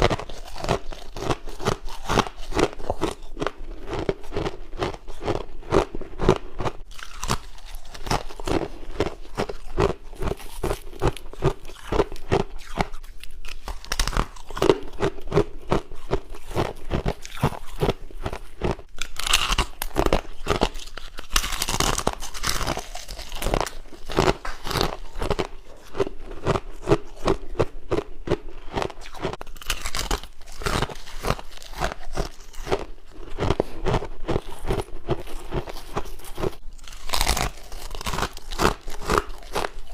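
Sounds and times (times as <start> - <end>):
person chewing crunchy ice: 0.0 - 39.9.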